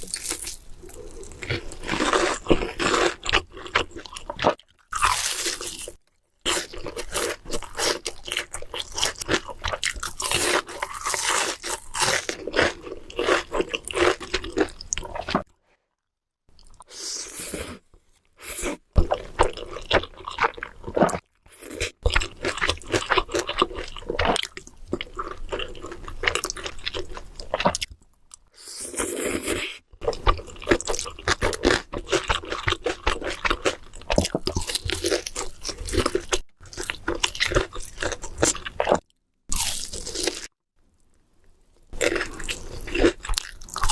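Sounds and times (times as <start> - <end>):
crunching and chewing food: 0.0 - 15.5, 17.9 - 43.9.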